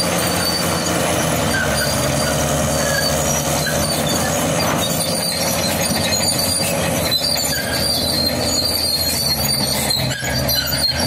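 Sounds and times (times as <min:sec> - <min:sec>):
diesel engine running: 0:00.0 - 0:11.0
steel tracks squealing and clattering: 0:00.0 - 0:11.0.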